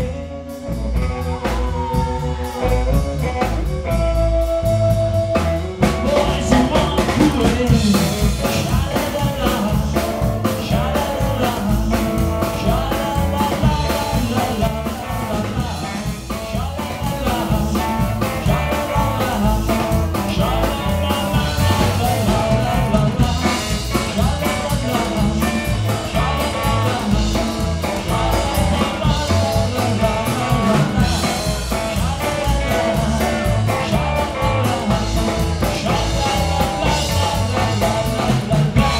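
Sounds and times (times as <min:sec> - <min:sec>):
live band playing: 0:00.0 - 0:38.9
man singing: 0:00.0 - 0:38.9.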